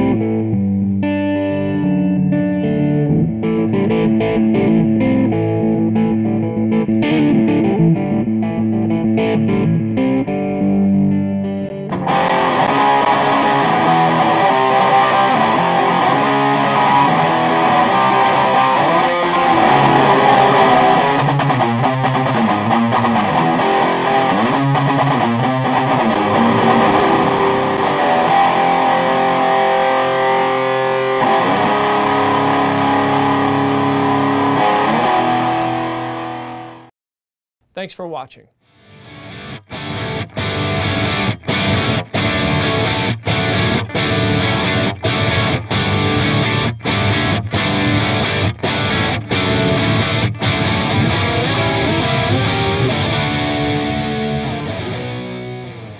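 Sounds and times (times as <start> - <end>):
distorted electric guitar: 0.0 - 36.9, 38.8 - 55.9.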